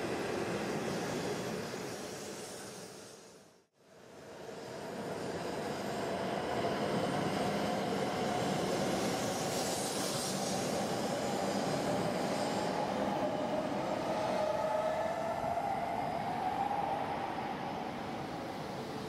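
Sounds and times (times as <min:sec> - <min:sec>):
high-speed train rushing past: 0:00.0 - 0:19.0.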